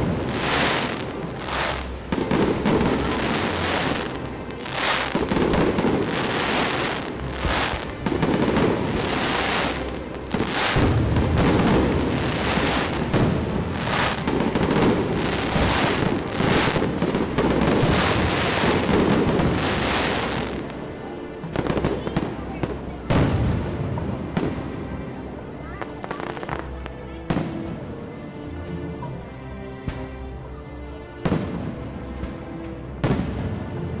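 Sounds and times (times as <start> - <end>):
firework shells booming and crackling: 0.0 - 27.8, 32.9 - 33.6.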